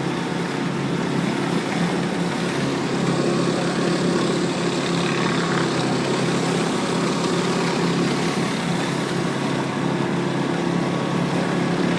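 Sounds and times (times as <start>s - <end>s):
pressure washer engine hum: 0.0s - 11.9s.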